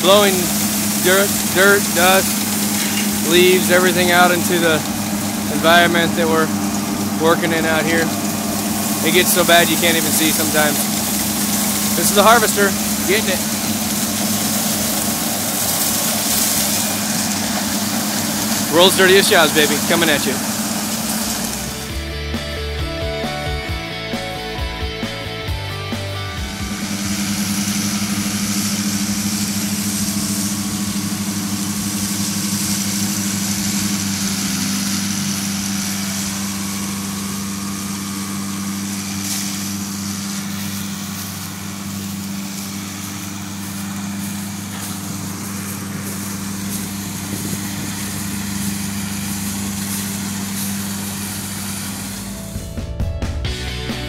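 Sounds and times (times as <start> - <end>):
rushing hiss of blowing air: 0.0 - 22.1, 25.9 - 52.7
tractor engine droning: 0.0 - 54.0.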